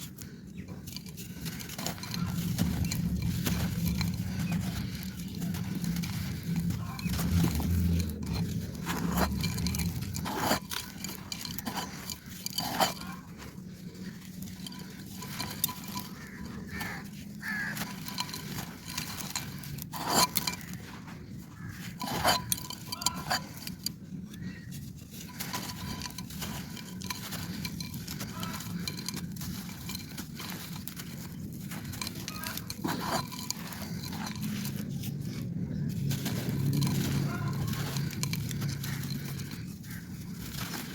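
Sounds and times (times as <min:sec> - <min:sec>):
clay pot crunching: 0:00.0 - 0:40.9.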